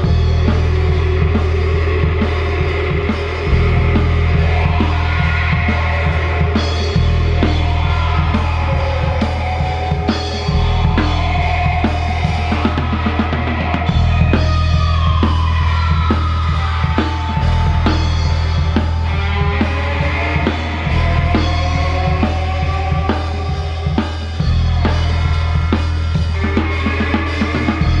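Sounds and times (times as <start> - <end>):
drum kit beat: 0.0 - 28.0
low bass notes: 0.0 - 28.0
rock band playing: 0.0 - 28.0
sliding lead guitar lines: 0.0 - 28.0.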